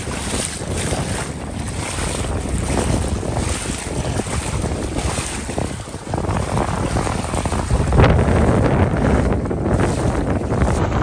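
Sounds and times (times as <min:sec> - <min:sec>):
water sloshing around legs: 0:00.0 - 0:11.0
wind buffeting microphone: 0:00.0 - 0:11.0.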